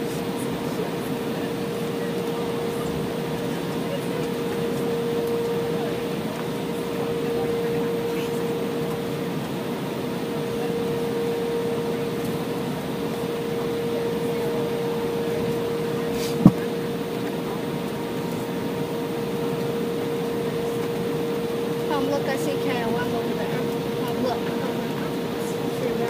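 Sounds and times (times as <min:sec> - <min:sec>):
constant high whine: 0:00.0 - 0:26.0
jet cabin engine rush: 0:00.0 - 0:26.0.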